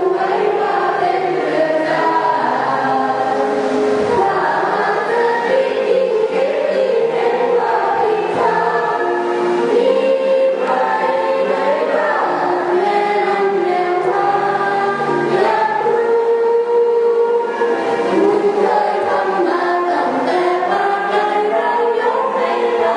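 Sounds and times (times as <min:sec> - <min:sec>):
choir singing in harmony: 0:00.0 - 0:22.9.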